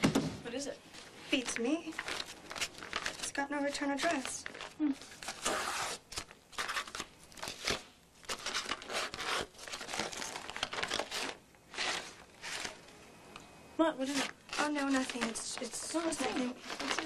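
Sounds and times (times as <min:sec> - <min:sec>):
paper envelope tearing and rustling: 0:01.4 - 0:12.8, 0:14.0 - 0:17.0.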